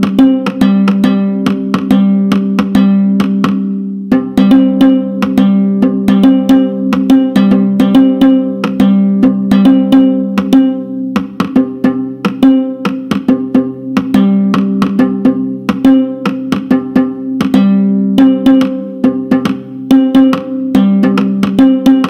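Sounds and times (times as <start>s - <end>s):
plucked lute pattern: 0.0s - 22.0s.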